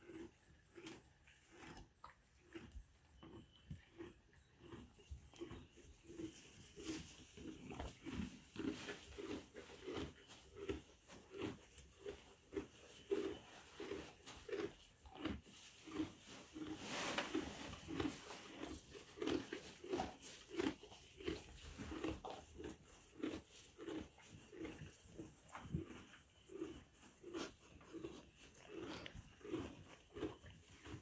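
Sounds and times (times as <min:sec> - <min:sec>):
donkey chewing hay: 0:00.0 - 0:31.0.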